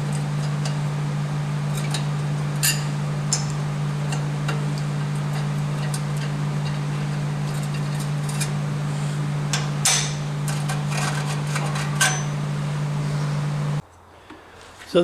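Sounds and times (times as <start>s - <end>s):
welder humming: 0.0s - 13.8s.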